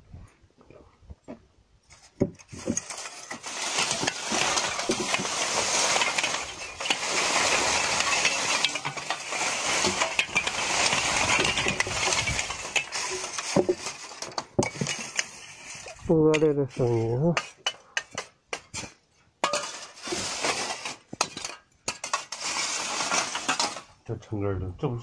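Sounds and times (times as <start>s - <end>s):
wood charcoal clinking and rattling: 1.9s - 24.2s.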